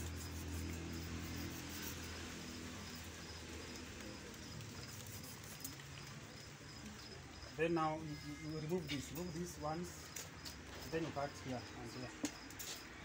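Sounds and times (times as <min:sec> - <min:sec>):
insect chirping: 0:00.0 - 0:12.8.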